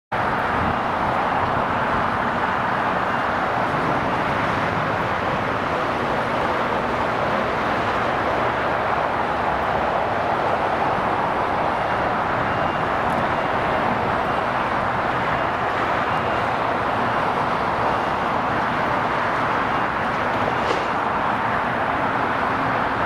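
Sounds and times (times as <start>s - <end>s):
jet engines roaring: 0.2s - 23.0s.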